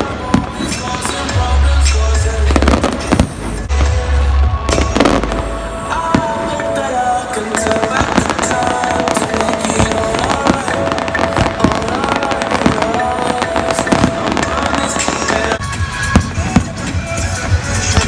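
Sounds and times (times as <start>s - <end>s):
fireworks bursting and crackling: 0.0s - 18.0s
loud music: 0.0s - 18.0s.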